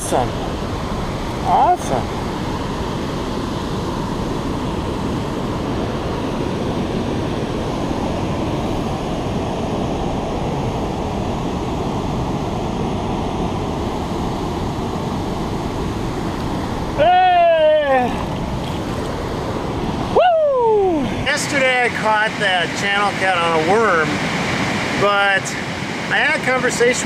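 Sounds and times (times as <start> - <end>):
river flowing over rapids: 0.0 - 27.0.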